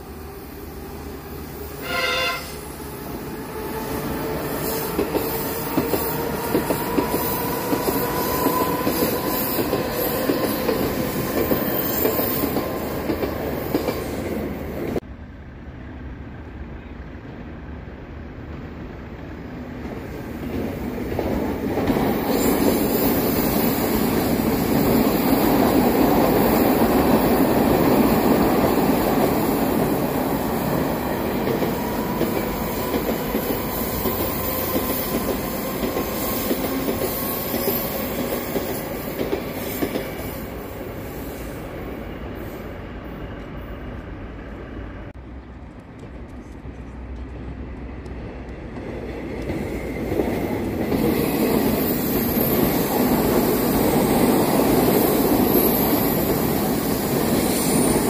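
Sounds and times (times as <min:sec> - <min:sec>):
train wheels rumbling on rails: 0:00.0 - 0:15.1, 0:15.7 - 0:58.0.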